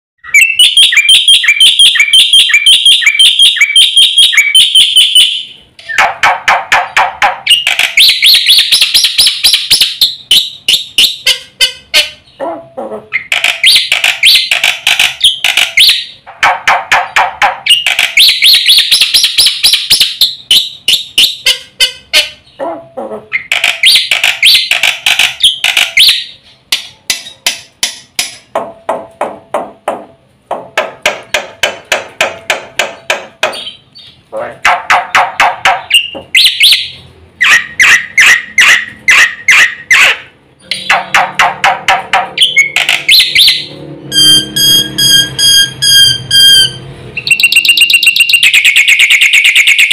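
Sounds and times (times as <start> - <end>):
bird singing rapid notes and clicks: 0.2 - 12.4, 13.1 - 22.6, 23.3 - 28.6, 31.0 - 49.9.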